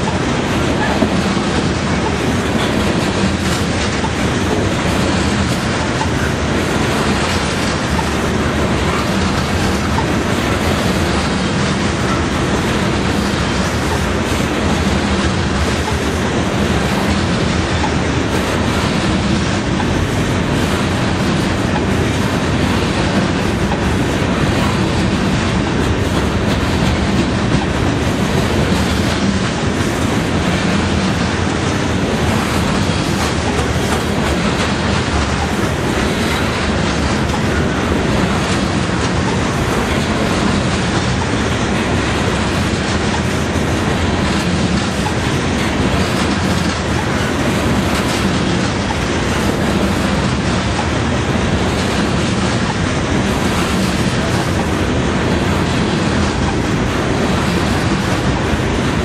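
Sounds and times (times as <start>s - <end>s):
train wheels rumbling on rails: 0.0s - 59.0s
wheels clickety-clack over rail joints: 0.0s - 59.0s.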